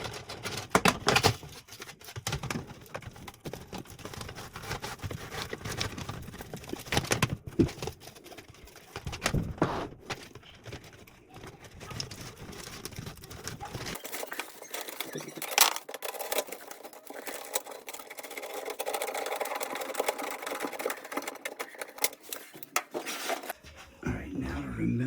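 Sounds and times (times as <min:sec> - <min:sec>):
rustling and clicking handling noise: 0:00.0 - 0:24.0.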